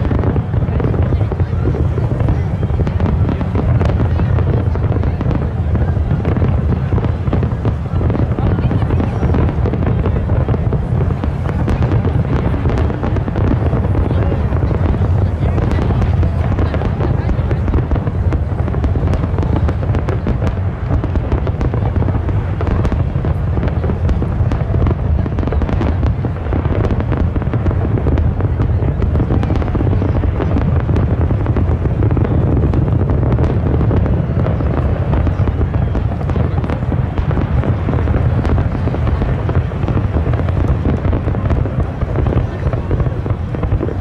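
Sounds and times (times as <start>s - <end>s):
rumble of firework bursts: 0.0s - 44.0s
sharp cracks and crackles: 0.0s - 44.0s.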